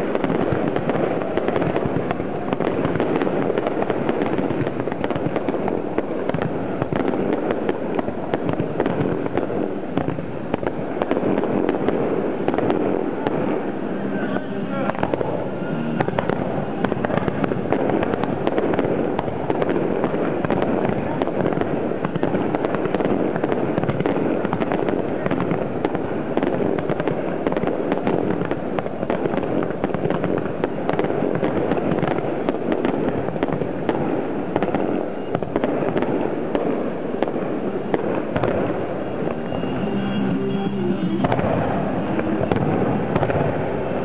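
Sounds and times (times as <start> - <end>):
fireworks launching and bursting: 0.0 - 44.0.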